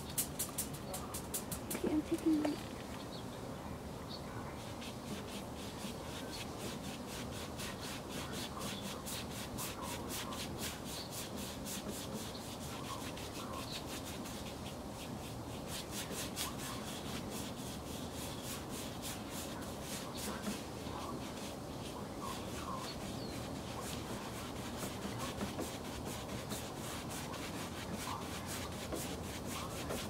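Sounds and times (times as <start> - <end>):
paintbrush scrubbing on canvas: 4.6 - 30.0.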